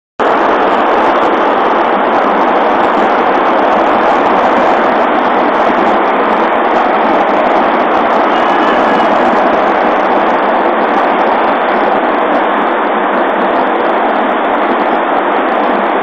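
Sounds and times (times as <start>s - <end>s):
skateboard wheels rolling on asphalt: 0.3s - 16.0s.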